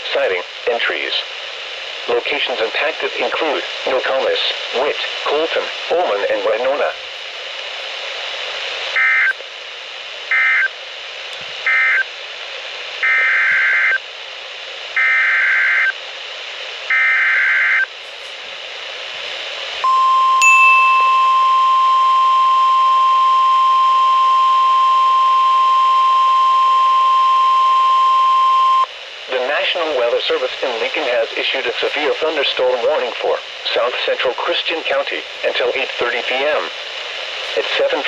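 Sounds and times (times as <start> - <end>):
radio hiss: 0.0 - 19.9, 21.7 - 38.0.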